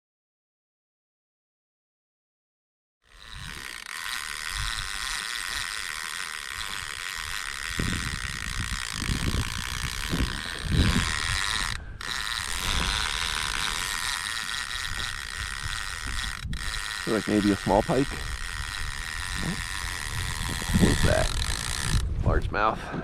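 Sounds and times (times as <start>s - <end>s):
fishing reel whirring: 3.1s - 22.2s.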